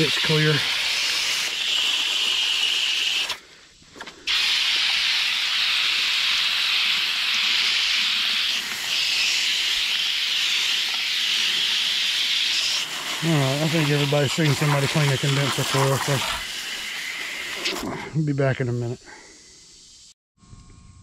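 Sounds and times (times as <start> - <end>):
hose spraying water on metal fins: 0.0 - 3.4, 4.2 - 17.9.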